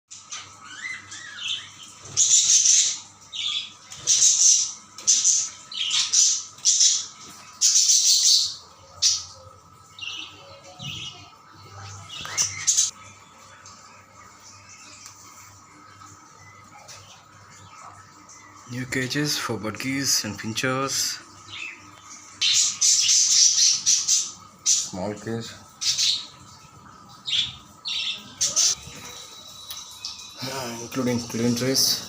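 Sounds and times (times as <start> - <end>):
cage birds squawking and chirping: 0.1 - 32.0.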